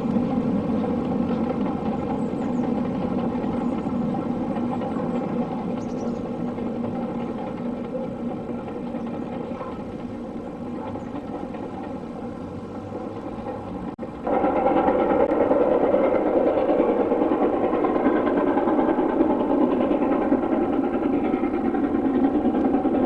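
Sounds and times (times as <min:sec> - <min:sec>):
steam locomotive running: 0:00.0 - 0:23.0.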